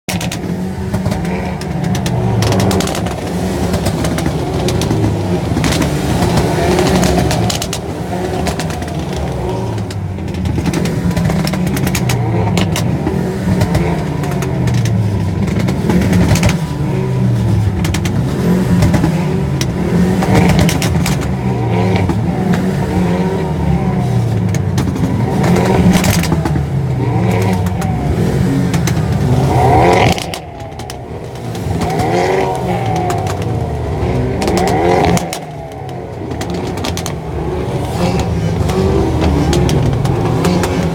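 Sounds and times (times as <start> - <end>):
car engines revving: 0.0 - 40.9
exhaust pops and bangs: 0.0 - 40.9.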